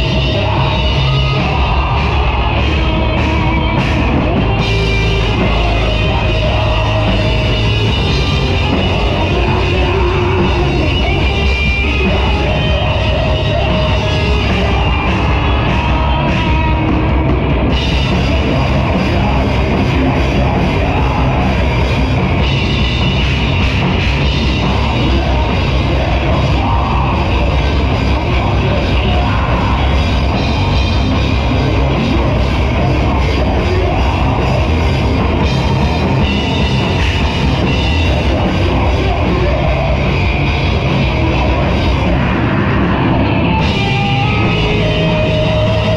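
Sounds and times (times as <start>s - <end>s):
drum kit: 0.0s - 45.9s
electric guitars: 0.0s - 45.9s.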